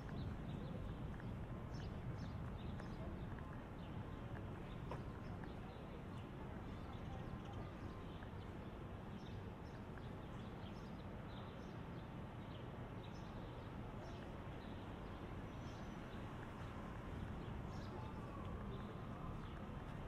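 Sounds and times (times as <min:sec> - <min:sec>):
footsteps clicking on pavement: 0:00.0 - 0:11.1, 0:13.1 - 0:20.0
low hum of traffic: 0:00.0 - 0:20.0.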